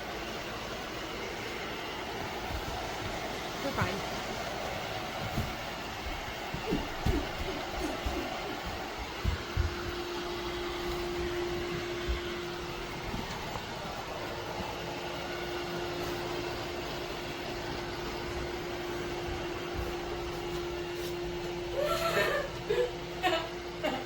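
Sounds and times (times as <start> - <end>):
robot vacuum whirring: 0.6 - 22.3.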